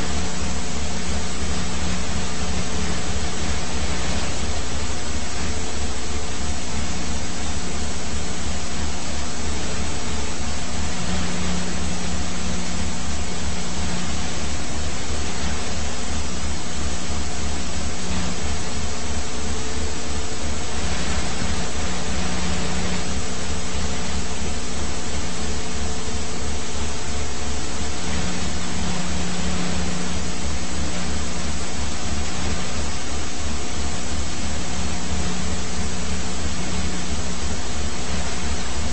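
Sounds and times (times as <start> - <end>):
helicopter rushing drone: 0.0 - 38.9
rotor low pulse: 0.0 - 38.9.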